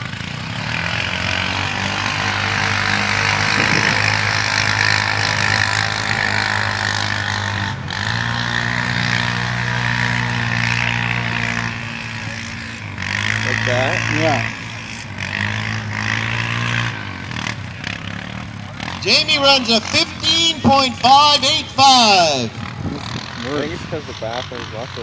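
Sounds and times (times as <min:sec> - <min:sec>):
atv engine revving hard: 0:00.0 - 0:25.0.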